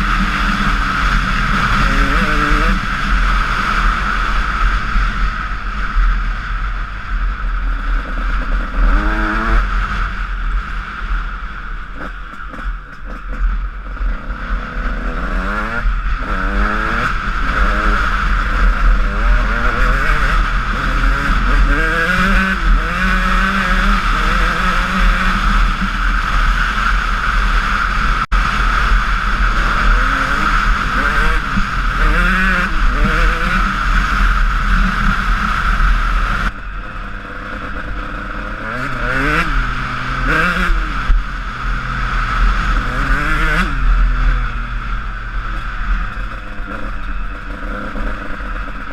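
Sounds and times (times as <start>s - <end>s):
motocross engine revving: 0.0s - 6.5s, 7.7s - 10.3s, 11.9s - 48.9s.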